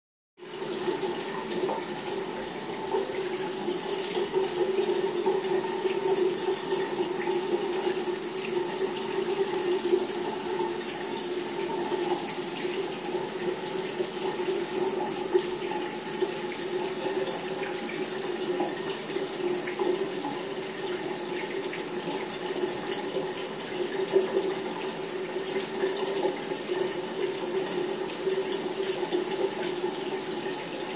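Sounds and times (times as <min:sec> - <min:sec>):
shower running: 0:00.4 - 0:30.9.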